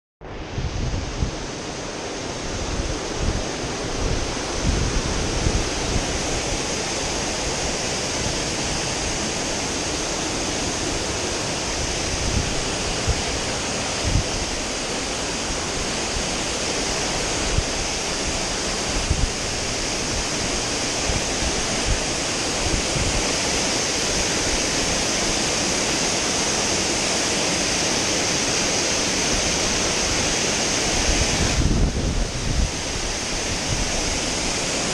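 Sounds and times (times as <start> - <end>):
wind buffeting microphone: 0.2 - 34.9
waterfall rushing: 0.4 - 34.9.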